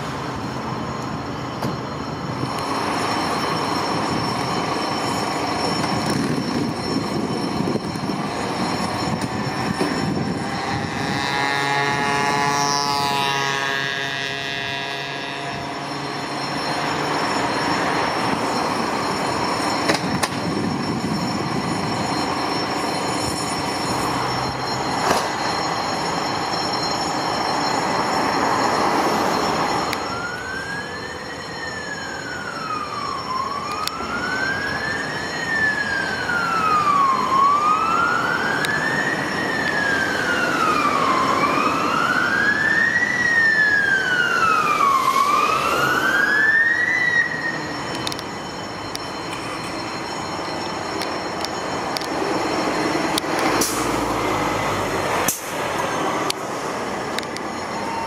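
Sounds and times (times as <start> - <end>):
fire engine wail siren: 0.0 - 58.0.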